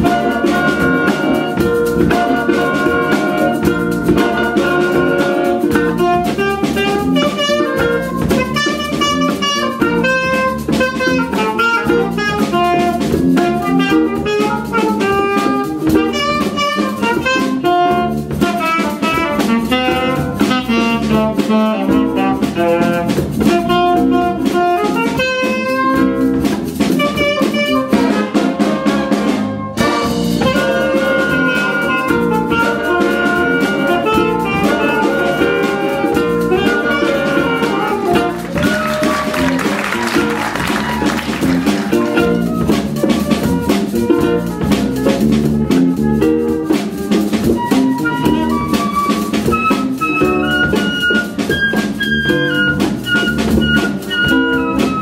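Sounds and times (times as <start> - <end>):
jazz band playing funk: 0.0 - 55.0.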